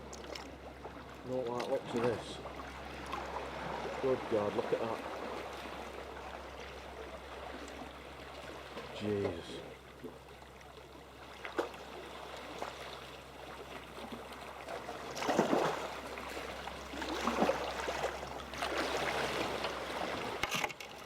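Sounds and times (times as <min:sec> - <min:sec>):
kayak paddle splashing: 0:00.0 - 0:21.0
water sloshing around kayak: 0:00.0 - 0:21.0.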